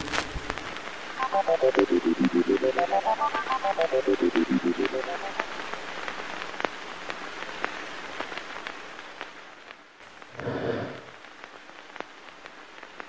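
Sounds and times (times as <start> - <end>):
crackling surface noise with pops: 0.0 - 13.0.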